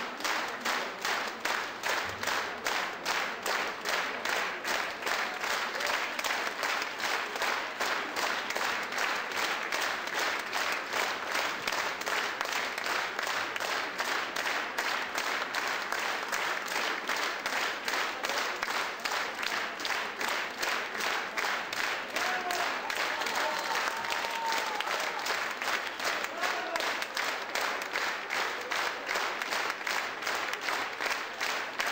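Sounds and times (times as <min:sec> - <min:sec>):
audience clapping in rhythm: 0:00.0 - 0:31.9.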